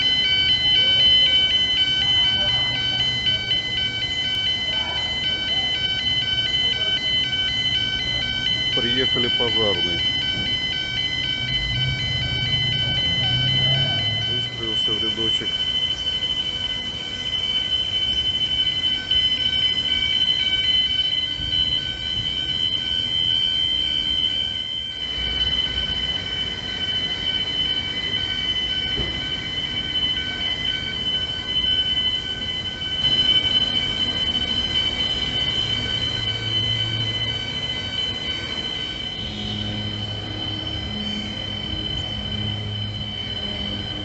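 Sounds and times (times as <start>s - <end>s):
high-pitched fire alarm tone: 0.0s - 44.0s.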